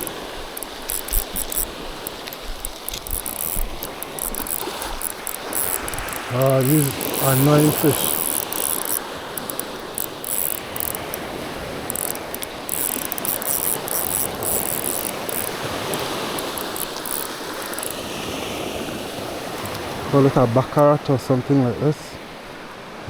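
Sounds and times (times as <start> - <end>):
fishing reel whirring and ratcheting: 0.0 - 18.2, 19.5 - 19.9.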